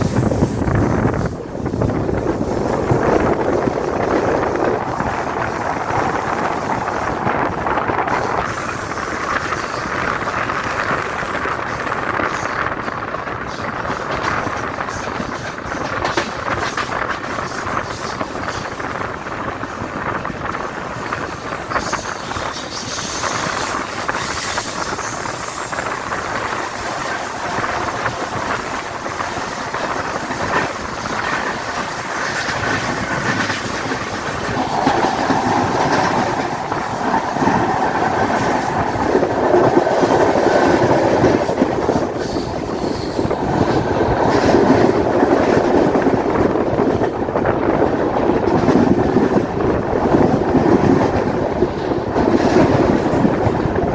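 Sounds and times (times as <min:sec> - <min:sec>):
train wheels clattering on rails: 0:00.0 - 0:53.9.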